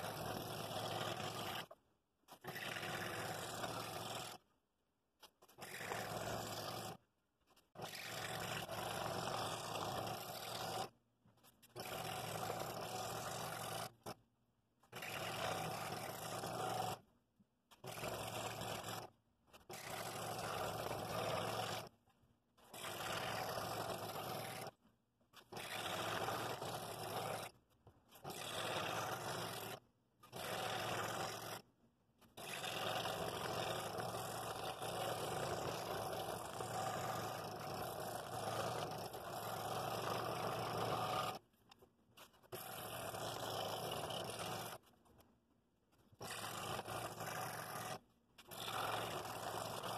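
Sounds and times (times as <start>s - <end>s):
scroll saw cutting wood: 0.0s - 4.6s, 5.2s - 49.9s.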